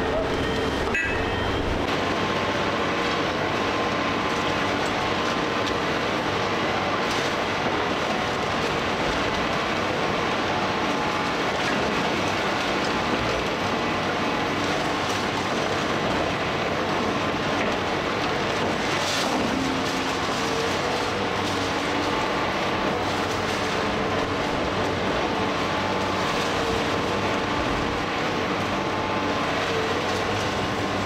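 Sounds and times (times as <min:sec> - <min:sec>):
excavator engine and hydraulics: 0:00.0 - 0:31.0.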